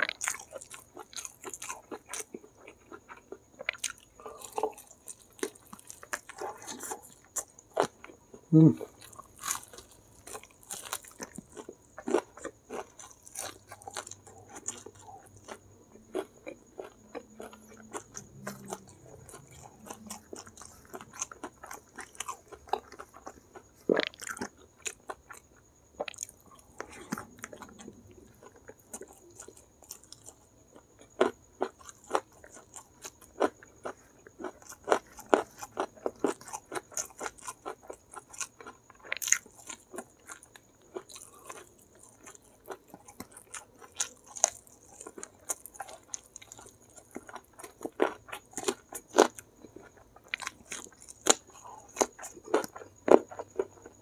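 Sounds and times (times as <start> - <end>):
crunchy fried chicken chewing: 0.0 - 54.0.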